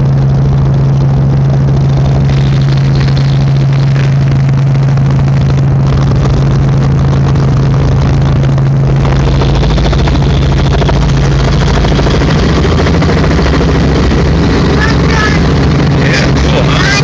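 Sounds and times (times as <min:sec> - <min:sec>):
helicopter cabin drone: 0:00.0 - 0:17.0.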